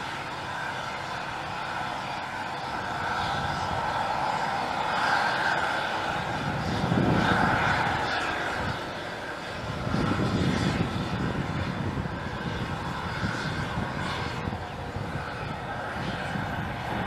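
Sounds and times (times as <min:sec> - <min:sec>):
helicopter turbine whine: 0:00.0 - 0:17.0.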